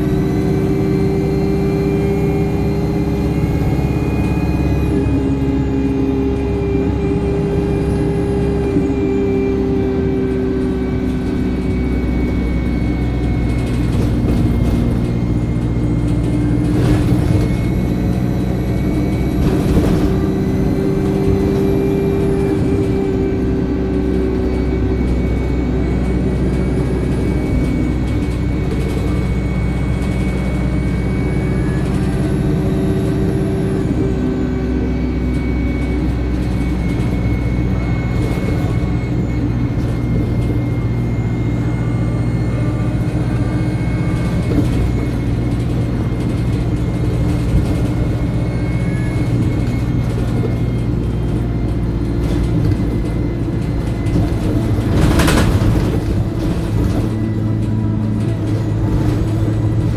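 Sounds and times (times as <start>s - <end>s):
bus diesel engine running: 0.0s - 59.9s
turbo whine: 0.0s - 59.9s.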